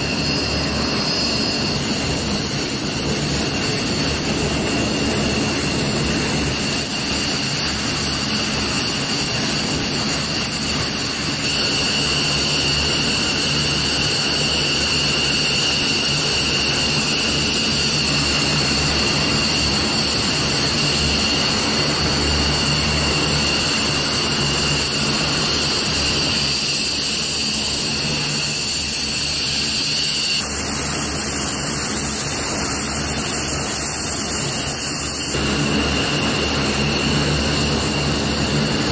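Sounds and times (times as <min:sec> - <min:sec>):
high two-tone jet whine: 0:00.0 - 0:38.9
jet engine roar: 0:00.0 - 0:38.9.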